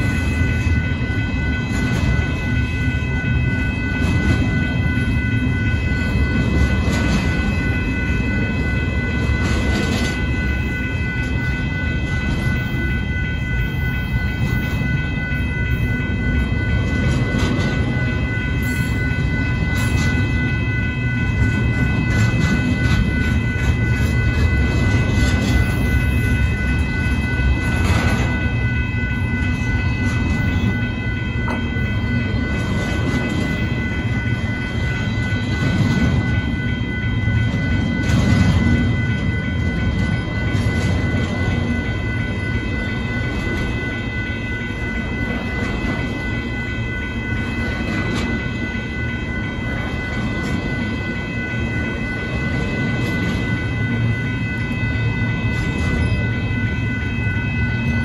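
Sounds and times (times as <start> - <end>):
freight train wheels rumbling: 0.0 - 58.0
high-pitched tones: 0.0 - 58.0
train clanks: 0.0 - 58.0.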